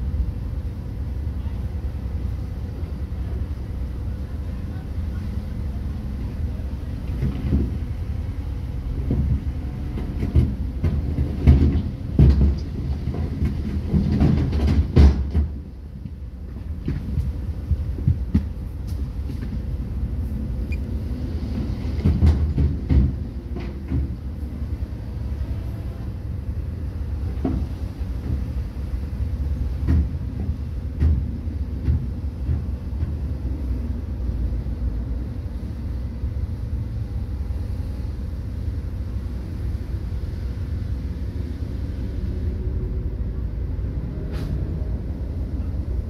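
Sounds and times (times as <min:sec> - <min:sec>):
heavy diesel machinery rumbling: 0:00.0 - 0:46.0.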